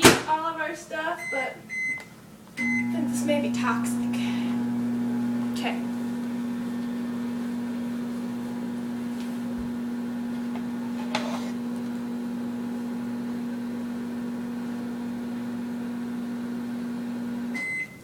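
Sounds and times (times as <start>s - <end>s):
microwave oven humming: 1.2s - 18.0s.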